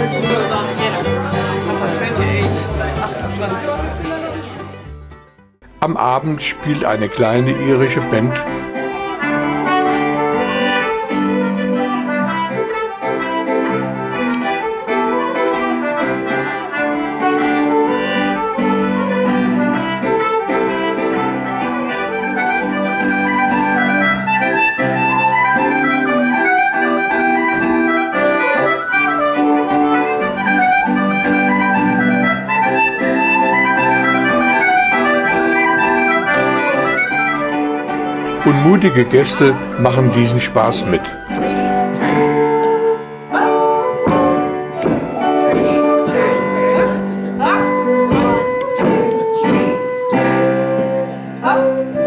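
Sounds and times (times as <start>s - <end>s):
concertina: 0.0s - 52.0s.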